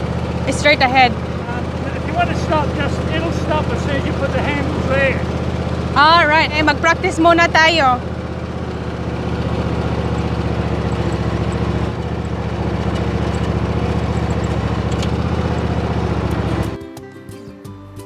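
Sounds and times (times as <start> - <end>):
riding mower engine running: 0.0 - 17.5.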